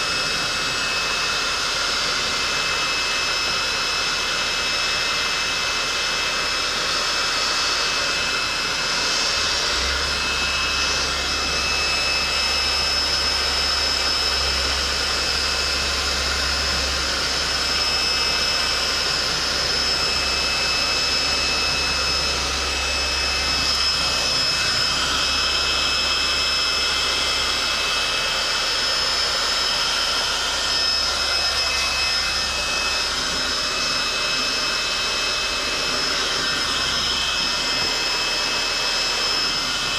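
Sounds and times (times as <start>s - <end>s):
heat gun blowing with whine: 0.0s - 39.9s
low hum: 5.7s - 39.9s.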